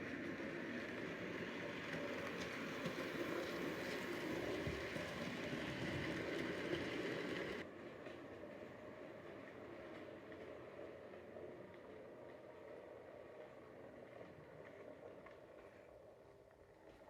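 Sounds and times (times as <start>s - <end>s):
model train rumbling on track: 0.0s - 14.3s
wheels clicking over rail joints: 0.0s - 15.8s.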